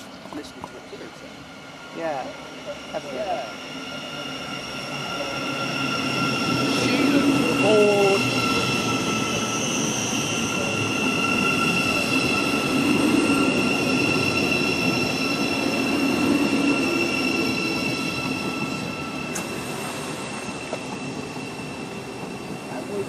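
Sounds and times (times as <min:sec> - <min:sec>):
electric train whine: 0:00.0 - 0:23.0.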